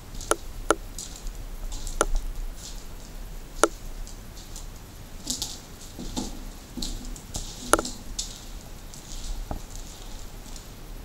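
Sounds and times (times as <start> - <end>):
footsteps crunching over debris: 0.0 - 11.0
low steady hum: 0.0 - 11.0.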